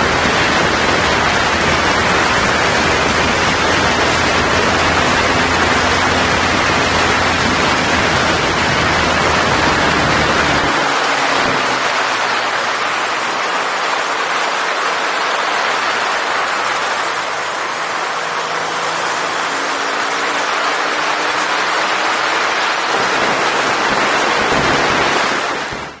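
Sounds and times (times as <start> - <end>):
low wind rumble: 0.0 - 26.0
motorcycle engine running: 0.0 - 26.0
wind and road noise rushing: 0.0 - 26.0.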